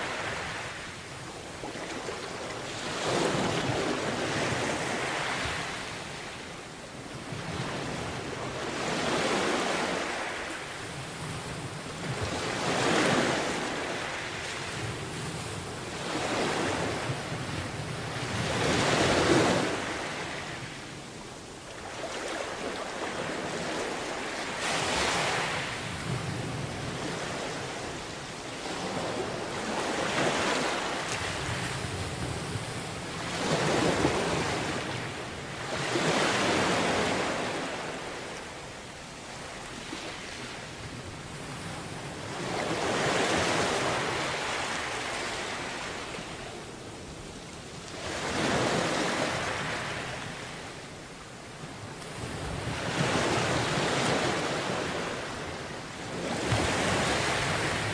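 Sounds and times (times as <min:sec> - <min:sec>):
sea waves breaking on beach: 0:00.0 - 0:57.9.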